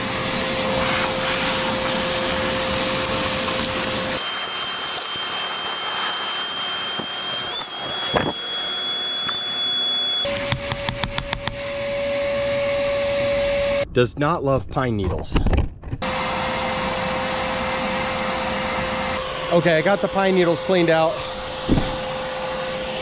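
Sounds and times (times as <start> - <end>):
shop vacuum whining: 0.0 - 13.8, 16.0 - 23.0.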